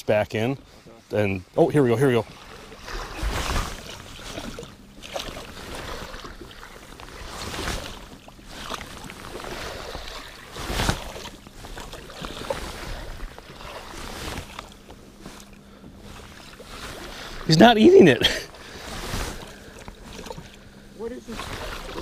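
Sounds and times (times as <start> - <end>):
faint steady hum: 0.0 - 22.0
water lapping around boat: 0.0 - 22.0.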